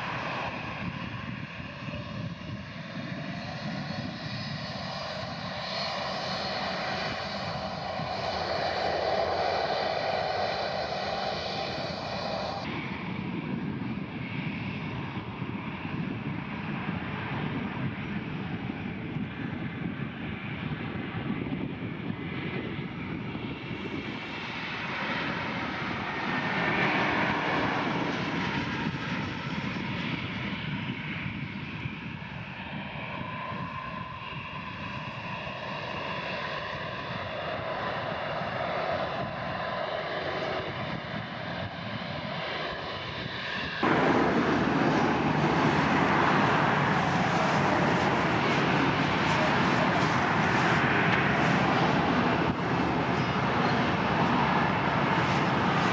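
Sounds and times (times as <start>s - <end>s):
jet engines rushing and whining: 0.0s - 55.9s.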